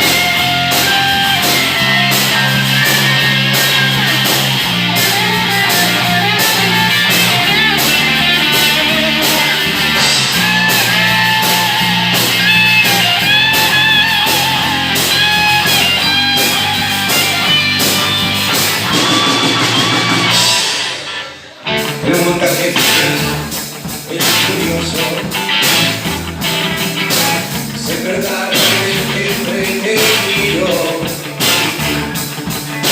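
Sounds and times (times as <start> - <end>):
bass guitar: 0.0 - 32.9
drum kit with cymbals: 0.0 - 32.9
electric guitar lead: 0.0 - 32.9.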